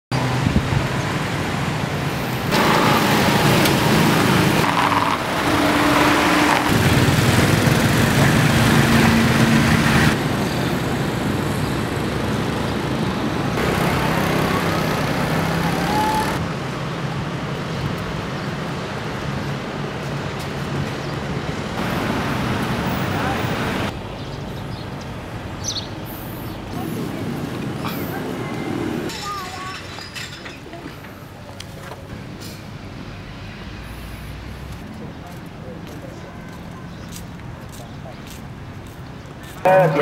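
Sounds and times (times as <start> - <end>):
street traffic: 0.1 - 40.0.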